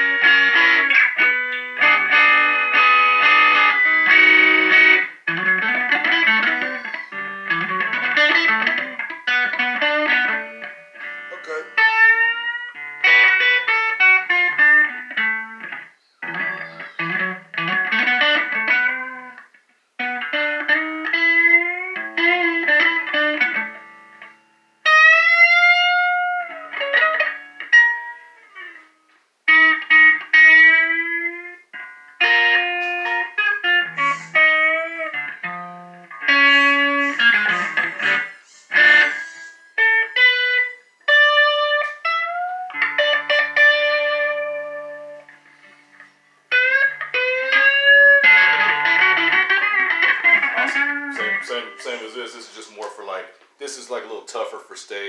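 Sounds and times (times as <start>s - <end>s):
electric guitar blues lead: 0.0s - 55.0s.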